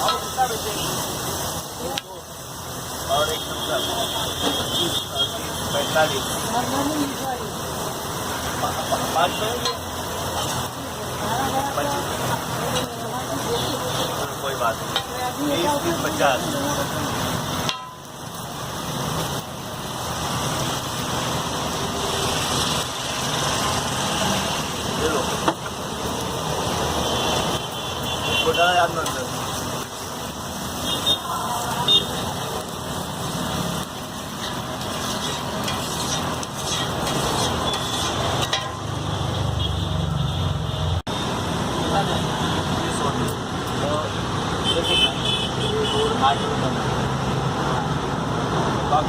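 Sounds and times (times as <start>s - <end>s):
egg sizzling on a griddle: 0.0s - 40.4s
street traffic: 0.0s - 49.0s.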